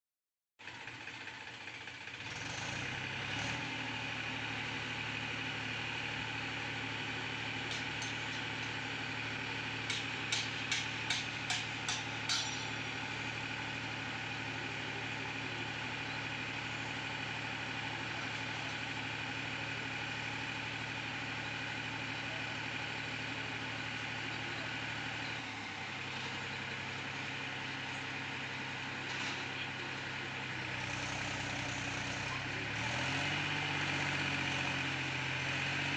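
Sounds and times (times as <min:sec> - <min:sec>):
tractor diesel engine running: 0:00.6 - 0:35.9.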